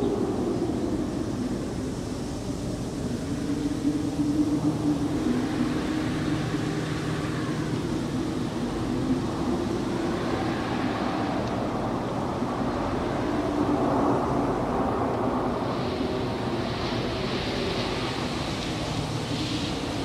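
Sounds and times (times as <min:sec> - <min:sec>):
wind rushing on microphone: 0:00.0 - 0:20.0.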